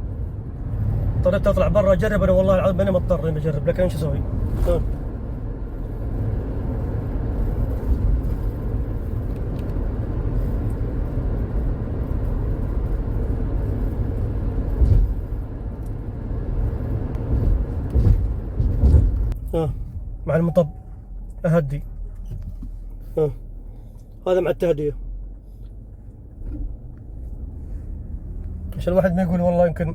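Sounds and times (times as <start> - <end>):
engine and tyre rumble in car cabin: 0.0 - 29.9.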